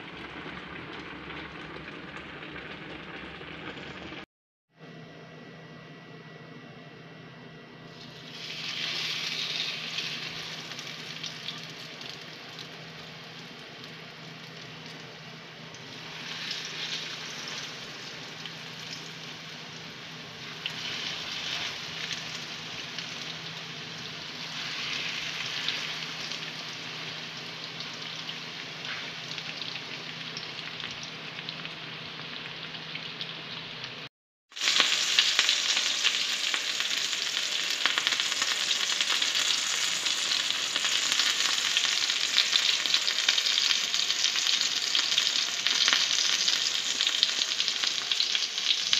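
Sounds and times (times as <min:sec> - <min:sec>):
chicken sizzling in hot oil: 0:00.0 - 0:04.3, 0:07.9 - 0:48.9.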